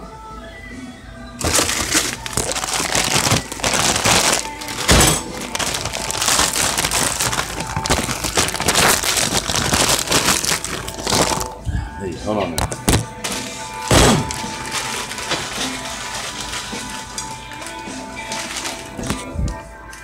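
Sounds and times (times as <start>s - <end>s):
plastic bag crinkling: 1.4s - 11.6s, 12.6s - 19.6s.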